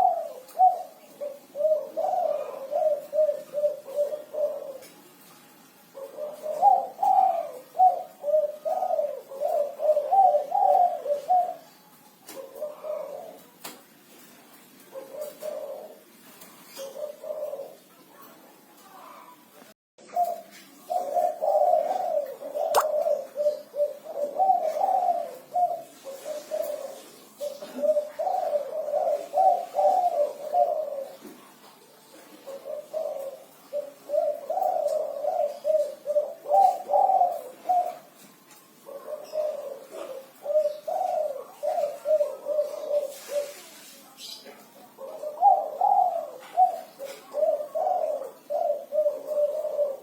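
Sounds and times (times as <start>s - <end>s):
dove cooing: 0.0s - 50.0s.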